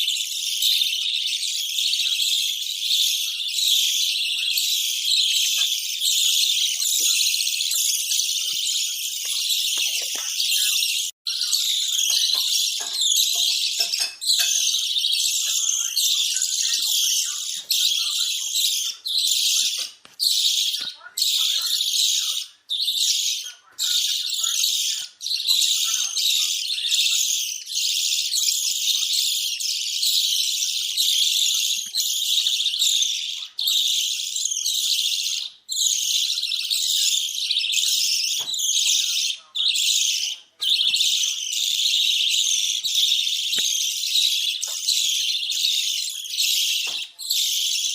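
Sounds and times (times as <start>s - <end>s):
budgerigars chattering and warbling: 0.0s - 47.9s.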